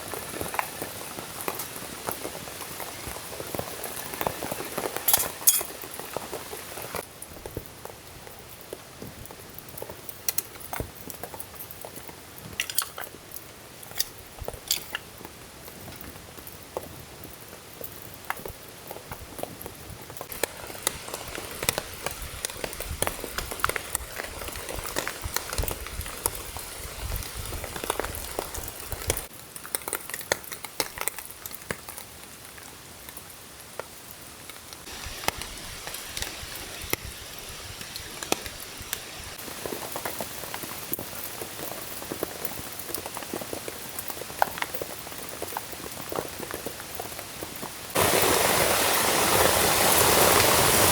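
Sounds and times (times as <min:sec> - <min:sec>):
rain drops ticking: 0:00.0 - 0:50.9
rain hiss: 0:00.0 - 0:50.9.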